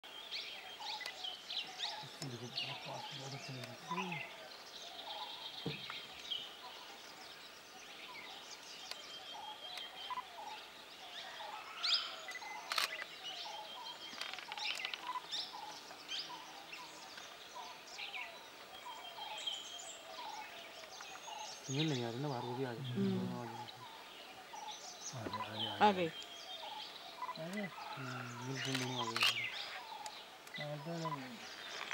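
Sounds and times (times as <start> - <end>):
birds chirping and calling: 0.1 - 31.9.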